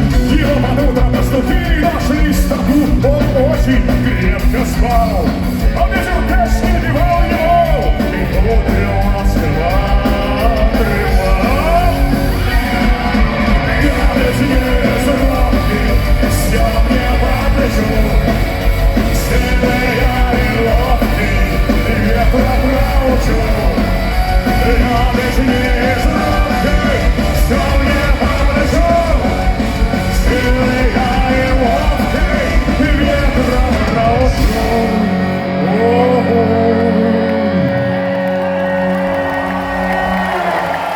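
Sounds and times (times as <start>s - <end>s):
person singing and yelling: 0.0s - 38.2s
punk rock band playing: 0.0s - 40.9s.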